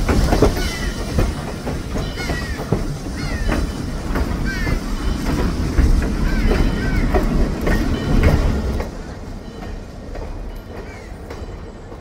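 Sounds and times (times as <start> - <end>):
train coaches rumbling past: 0.0 - 12.0
wheels clicking over rail joints: 0.0 - 12.0.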